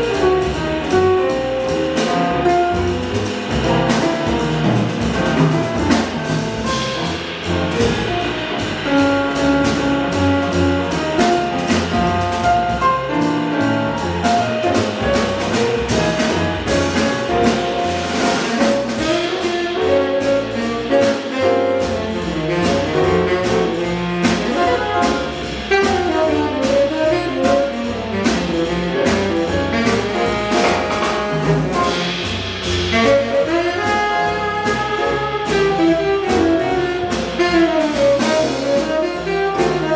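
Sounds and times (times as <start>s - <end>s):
double bass: 0.0s - 39.9s
drums with cymbal strokes: 0.0s - 39.9s
piano: 0.0s - 39.9s.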